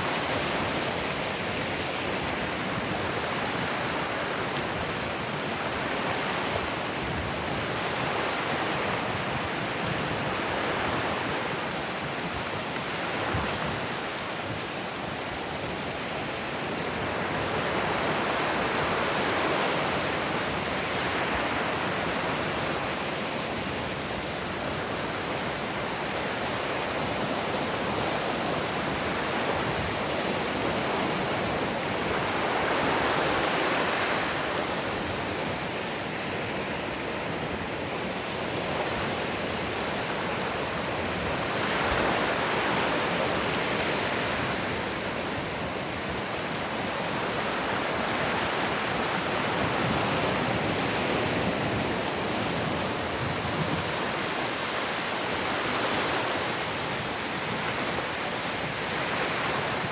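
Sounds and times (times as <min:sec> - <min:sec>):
ocean surf on a beach: 0:00.0 - 0:59.9.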